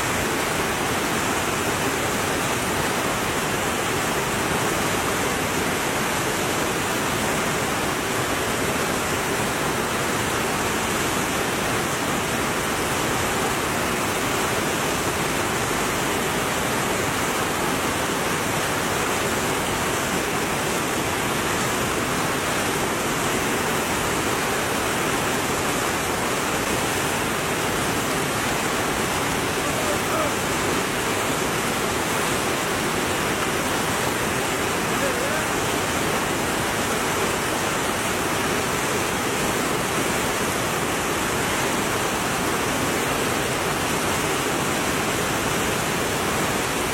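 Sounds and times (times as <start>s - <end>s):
stream rushing: 0.0s - 46.9s.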